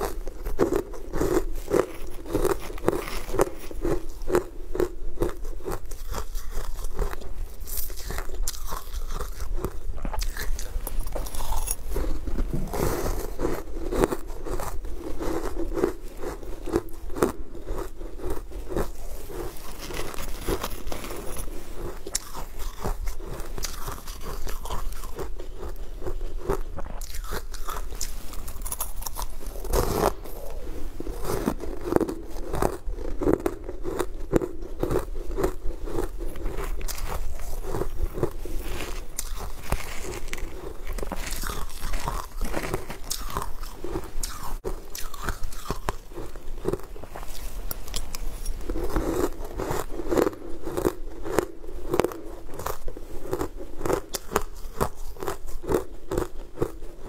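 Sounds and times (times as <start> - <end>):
chewing: 0.0 - 57.0
crunching sweet ice: 0.0 - 57.0.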